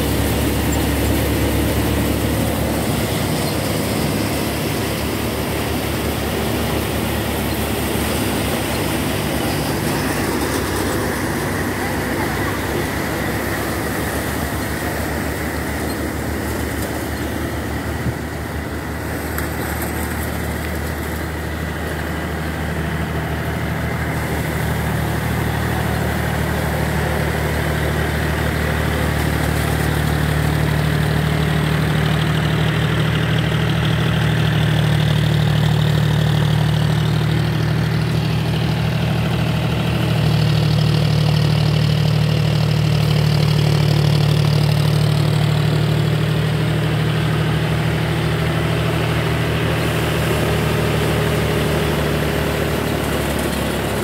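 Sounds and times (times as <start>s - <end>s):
tractor diesel engine hum: 0.0s - 54.0s.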